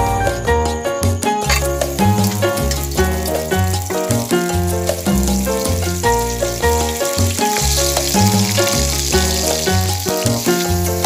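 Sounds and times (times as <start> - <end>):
background music with beat: 0.0 - 11.0
vegetables sizzling in oil: 1.5 - 11.0.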